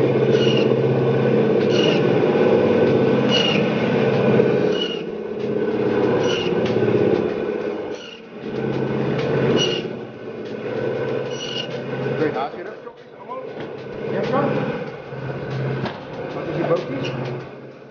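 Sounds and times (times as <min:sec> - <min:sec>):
meat band saw cutting bone: 0:00.0 - 0:12.6, 0:13.6 - 0:17.6.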